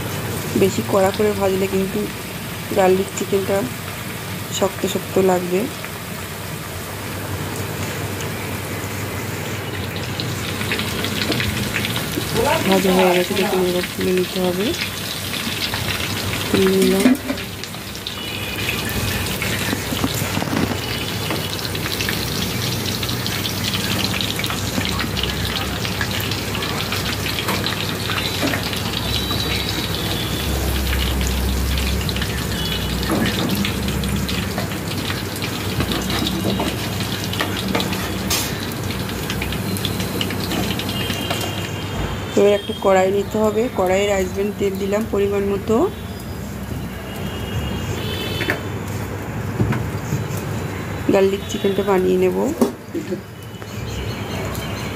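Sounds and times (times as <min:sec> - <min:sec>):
food frying in sizzling oil: 0:00.0 - 0:54.9.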